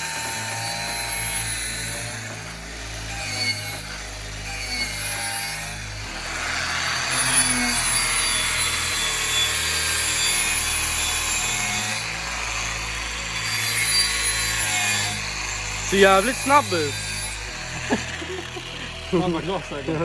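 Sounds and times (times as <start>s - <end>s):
power tool grinding metal: 0.0s - 20.0s.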